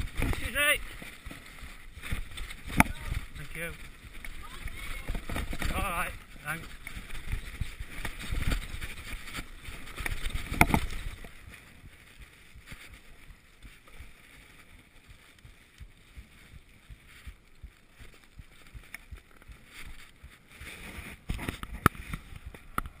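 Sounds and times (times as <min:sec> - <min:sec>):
mountain bike rattling on dirt trail: 0:00.0 - 0:23.0.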